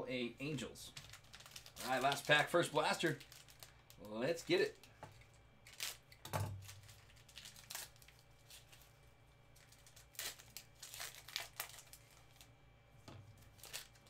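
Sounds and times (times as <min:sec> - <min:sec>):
plastic wrapper tearing and crinkling: 0:00.9 - 0:09.0, 0:09.6 - 0:12.5, 0:13.3 - 0:14.0.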